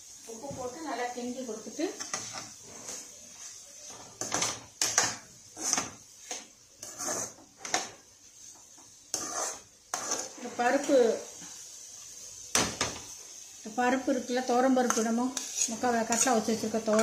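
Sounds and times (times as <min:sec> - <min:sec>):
spoon scraping in pan: 0:01.8 - 0:11.6, 0:12.6 - 0:17.0.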